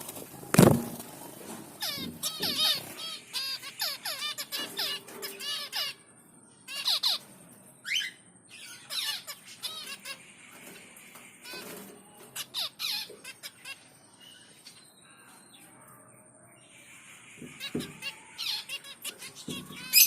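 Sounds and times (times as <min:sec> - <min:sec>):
baby finches cheeping: 0:01.8 - 0:15.6, 0:16.8 - 0:20.0.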